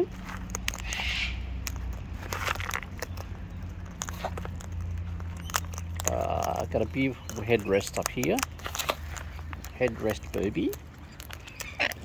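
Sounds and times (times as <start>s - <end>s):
cockatoo beak chewing food: 0.0s - 12.0s.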